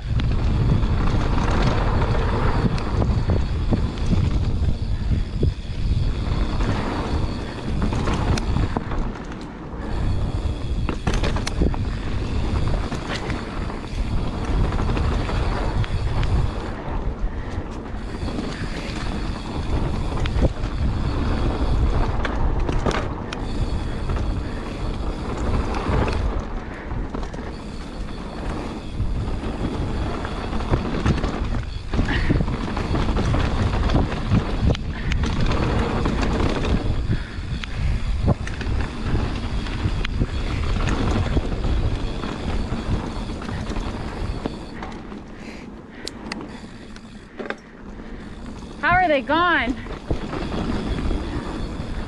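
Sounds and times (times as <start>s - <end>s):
bike clicks and rattles: 0.0s - 52.0s
bike tyres rolling over dirt: 0.0s - 52.0s
wind buffeting the microphone: 0.0s - 52.0s.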